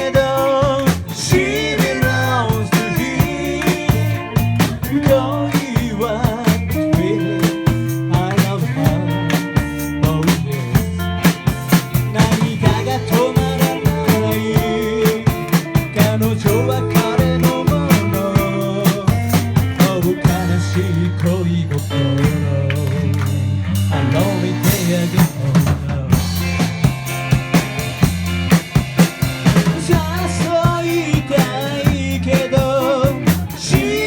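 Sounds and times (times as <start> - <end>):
drum kit steady beat: 0.0 - 34.0
rock band playing live: 0.0 - 34.0.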